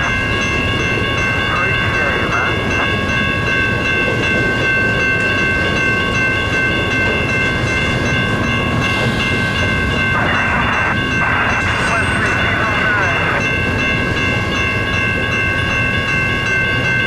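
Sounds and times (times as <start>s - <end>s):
freight train wheels rumbling: 0.0s - 17.0s
high ringing tones: 0.0s - 17.0s.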